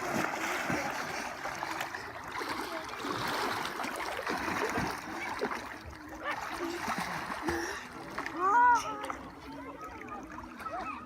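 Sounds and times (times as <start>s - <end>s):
water splashing around swimmers: 0.0s - 11.0s.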